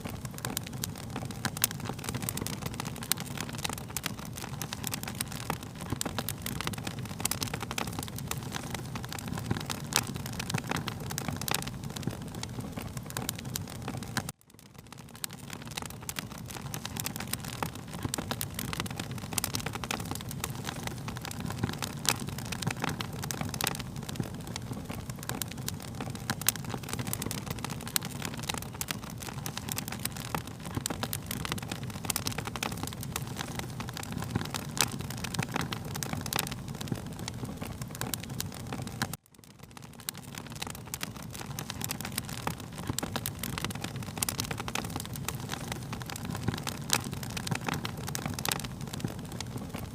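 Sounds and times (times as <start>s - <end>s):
fire crackling with pops: 0.0s - 49.9s.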